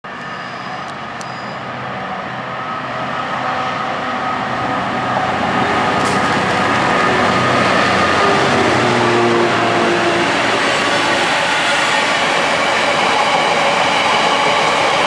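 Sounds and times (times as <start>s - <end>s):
diesel locomotive engines droning: 0.0s - 15.0s.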